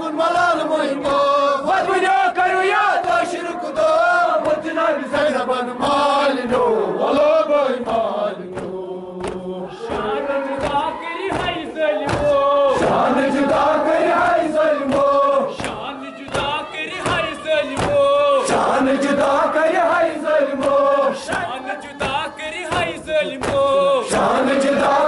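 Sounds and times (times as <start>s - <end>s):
men chanting in unison: 0.0s - 25.0s
hands slapping chests: 0.3s - 25.0s.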